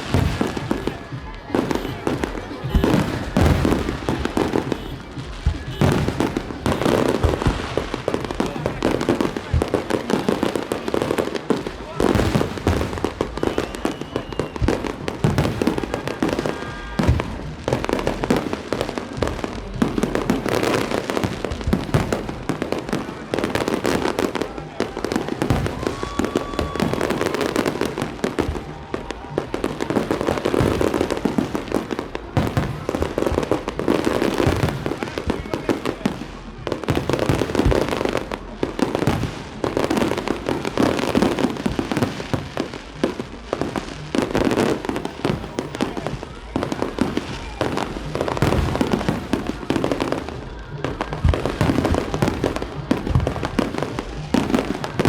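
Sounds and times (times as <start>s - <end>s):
firecrackers crackling: 0.0s - 55.0s
loud firework reports: 0.0s - 55.0s.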